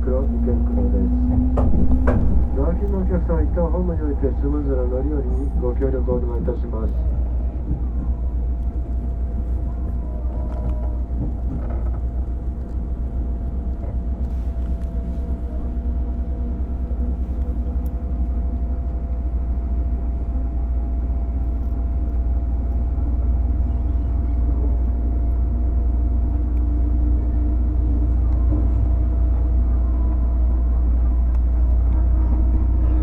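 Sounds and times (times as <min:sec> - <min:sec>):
train car rumble and hum: 0:00.0 - 0:33.0.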